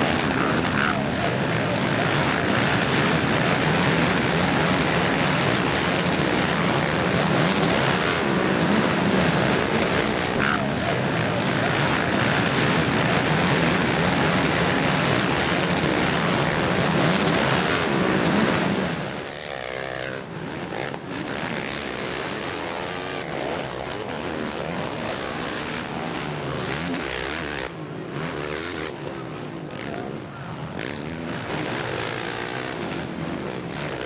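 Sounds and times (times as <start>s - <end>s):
motocross bikes revving: 0.0s - 34.0s.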